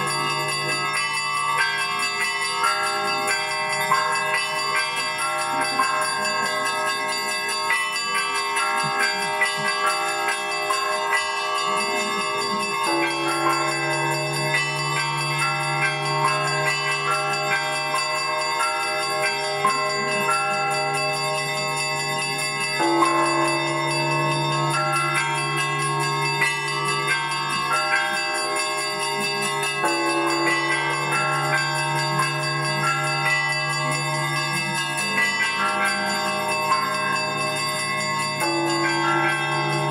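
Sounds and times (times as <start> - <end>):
church bells pealing: 0.0 - 39.9
deep low bell: 0.0 - 39.9.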